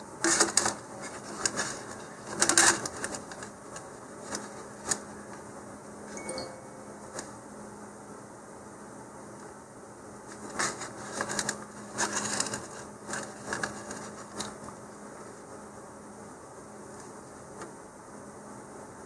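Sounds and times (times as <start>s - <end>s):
faint steady hum: 0.9s - 19.0s.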